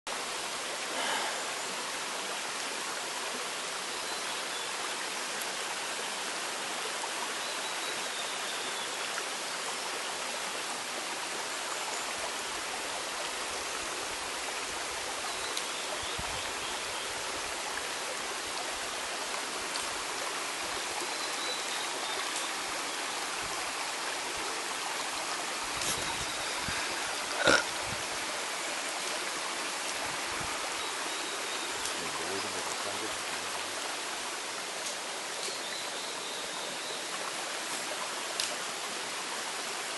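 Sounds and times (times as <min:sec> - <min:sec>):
stream water running over rocks: 0:00.1 - 0:39.9.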